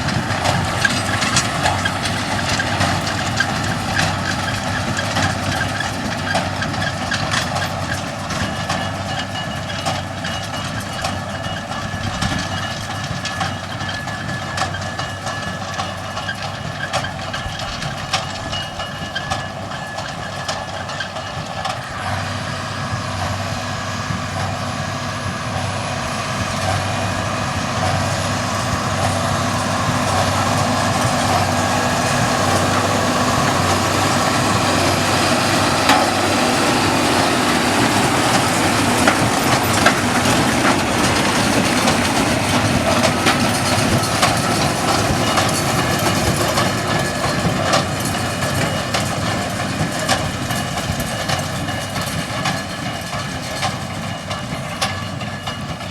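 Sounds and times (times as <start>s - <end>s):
large vehicle rumbling: 0.0s - 55.9s.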